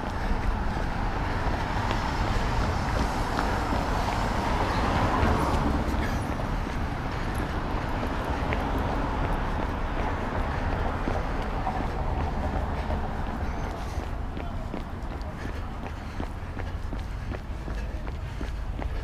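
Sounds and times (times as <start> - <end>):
city street traffic: 0.0 - 19.0
vehicle passing by: 0.0 - 19.0.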